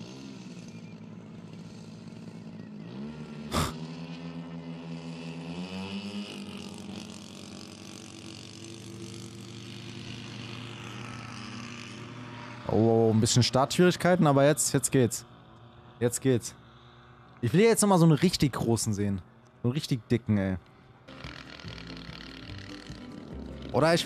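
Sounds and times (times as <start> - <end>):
twin piston engines running up: 0.0 - 24.0.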